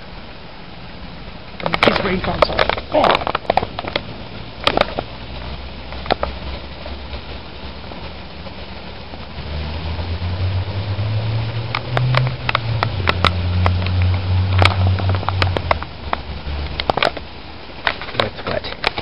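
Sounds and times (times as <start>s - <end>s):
car engine low hum: 0.0s - 19.0s
heavy rain: 0.0s - 19.0s
sharp taps of raindrops: 1.3s - 19.0s.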